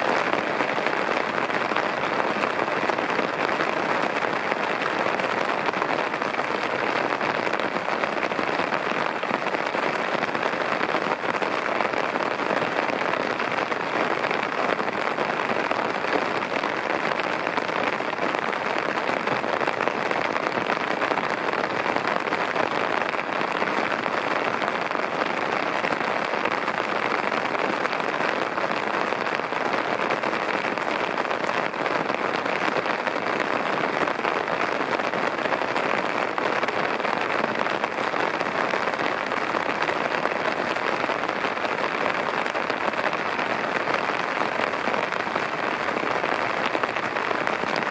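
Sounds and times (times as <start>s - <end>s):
torrential rain falling: 0.0s - 47.9s.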